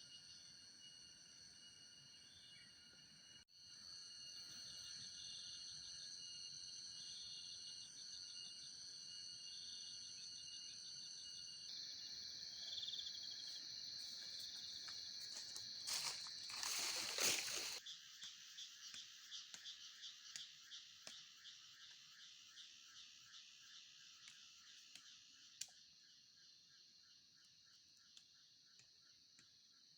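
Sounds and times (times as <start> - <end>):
crickets trilling: 0.1 - 29.9.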